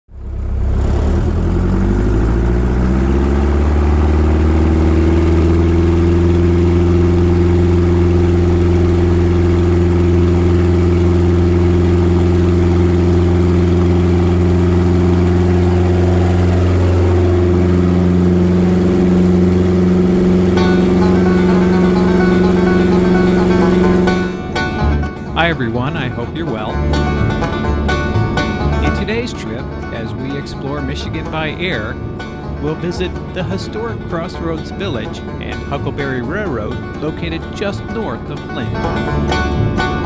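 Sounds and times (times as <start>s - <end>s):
propeller aircraft engine droning: 0.1s - 40.0s.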